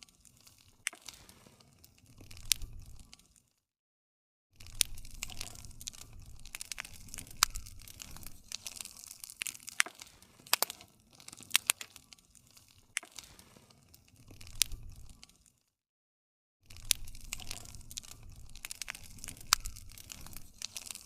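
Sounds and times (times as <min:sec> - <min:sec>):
wood fire crackling: 0:00.0 - 0:03.6, 0:04.6 - 0:15.7, 0:16.7 - 0:21.0.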